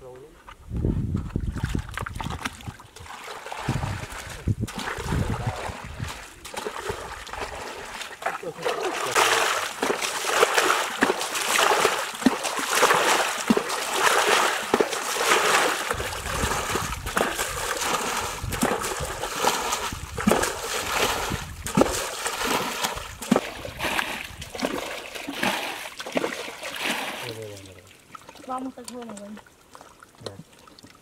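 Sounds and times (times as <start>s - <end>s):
water splashing from bucket: 1.4s - 31.0s.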